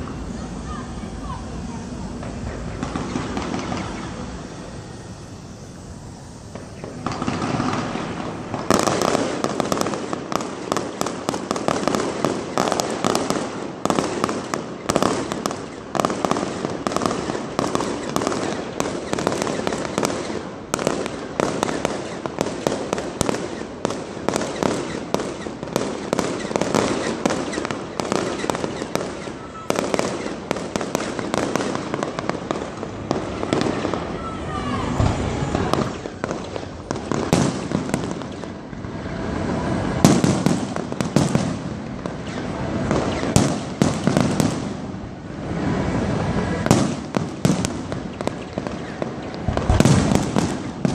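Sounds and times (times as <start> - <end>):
fireworks crackling pops: 0.0 - 50.9.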